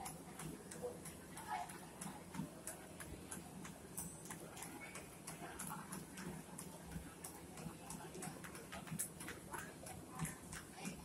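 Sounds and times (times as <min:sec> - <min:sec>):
running footsteps on treadmill belt: 0:00.0 - 0:11.0.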